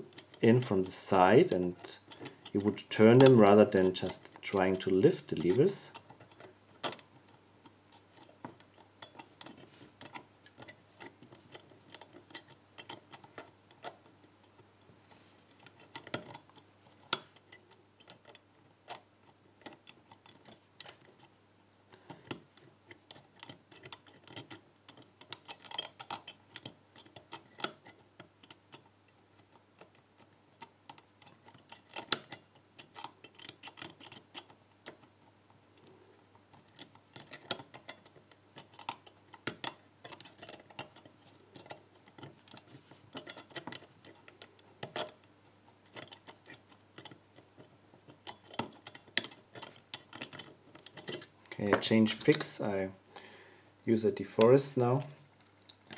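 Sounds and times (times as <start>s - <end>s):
lock pick clicking and scraping: 0.0s - 14.8s, 15.5s - 21.4s, 22.0s - 52.6s, 55.6s - 55.9s
faint steady hum: 0.0s - 55.9s.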